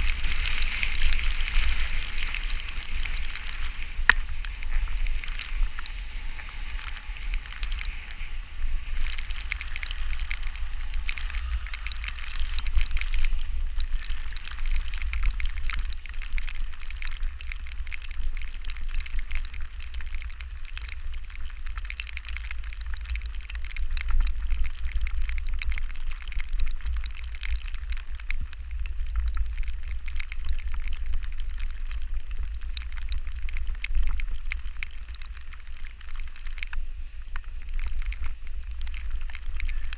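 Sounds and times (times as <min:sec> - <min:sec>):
rain pattering: 0:00.0 - 0:39.9
wind buffeting microphone: 0:00.0 - 0:39.9.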